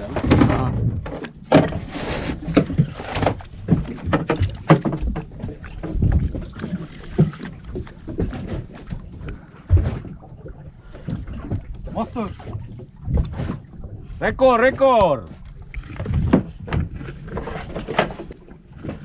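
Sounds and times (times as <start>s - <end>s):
knocks on hull: 0.0s - 10.2s, 11.0s - 19.0s
water splashing against boat hull: 0.0s - 19.0s.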